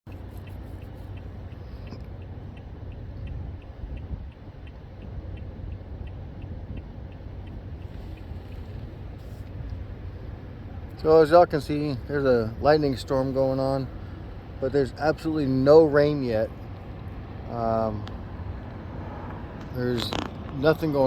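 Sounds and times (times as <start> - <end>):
low rumbling outdoor noise: 0.1 - 21.0.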